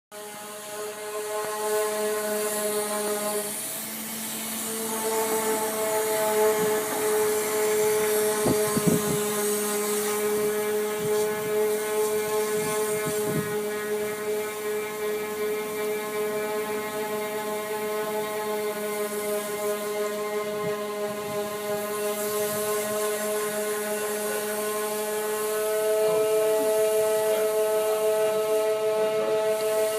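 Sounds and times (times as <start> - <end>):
hose humming drone: 0.1 - 29.9.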